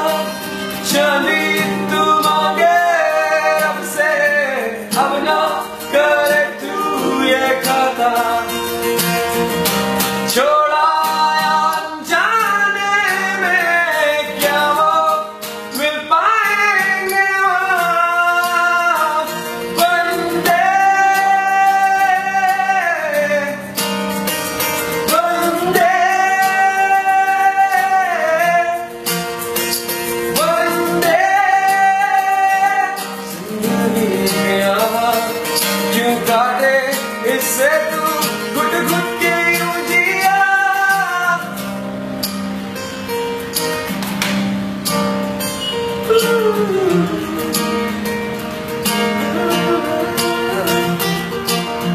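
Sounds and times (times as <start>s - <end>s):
man singing: 0.0s - 8.8s, 10.3s - 23.8s, 25.0s - 29.2s, 30.2s - 41.7s, 45.9s - 48.1s, 48.8s - 51.9s
acoustic guitar: 0.0s - 51.9s.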